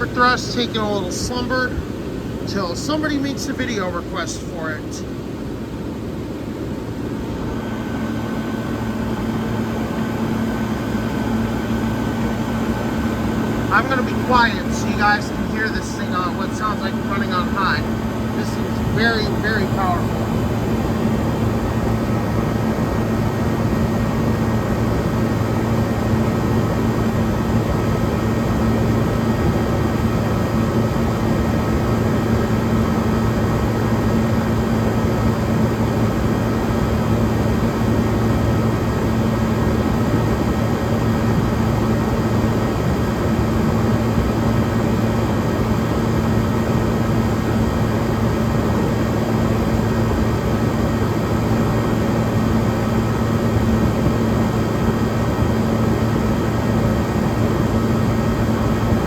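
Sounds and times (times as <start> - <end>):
air conditioner fan rushing: 0.0 - 59.0
electrical hum: 0.0 - 59.0.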